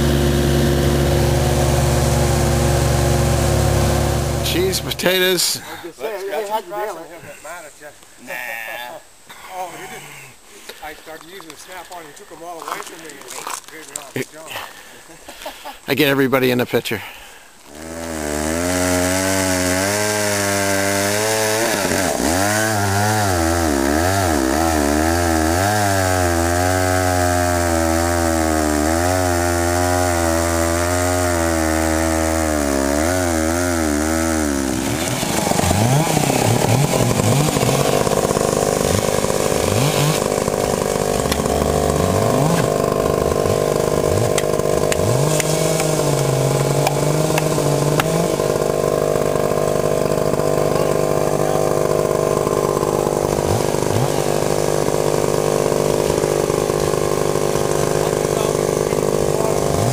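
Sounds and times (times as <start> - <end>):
chainsaw cutting log: 0.0 - 6.4, 17.6 - 59.9.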